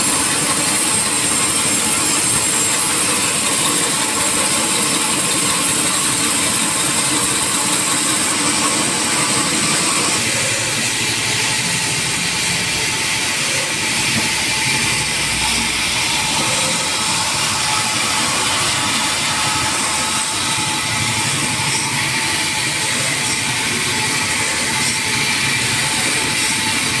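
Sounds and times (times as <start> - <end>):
sawmill saw and machinery: 0.0 - 27.0.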